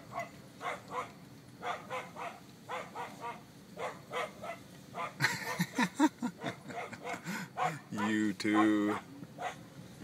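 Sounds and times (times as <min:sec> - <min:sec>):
dogs barking: 0:00.0 - 0:09.7.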